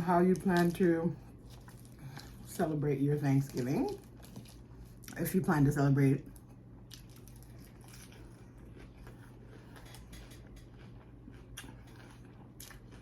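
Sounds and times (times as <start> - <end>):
chewing burger: 0.4 - 2.5, 3.4 - 5.2, 6.3 - 13.0.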